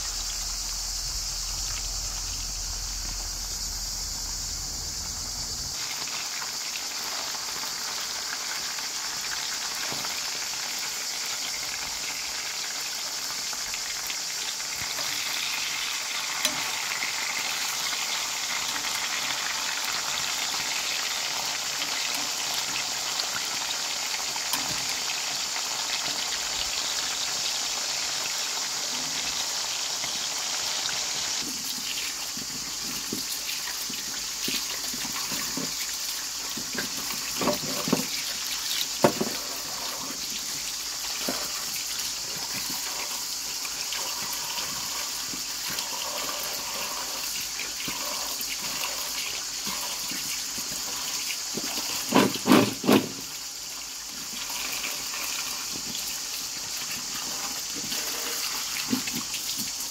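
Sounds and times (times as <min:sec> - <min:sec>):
chicken sizzling in a frying pan: 0:00.0 - 0:59.9
tap water running onto fruit: 0:00.0 - 0:59.9.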